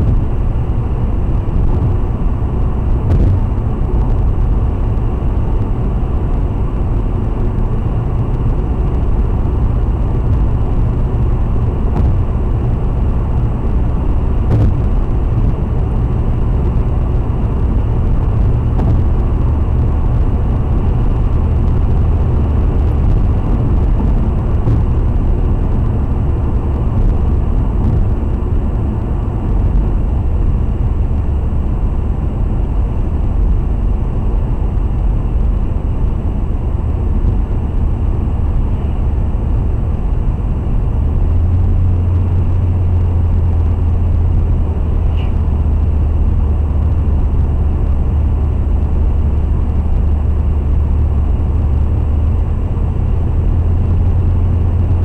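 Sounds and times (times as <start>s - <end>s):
car road noise from inside: 0.0s - 55.0s.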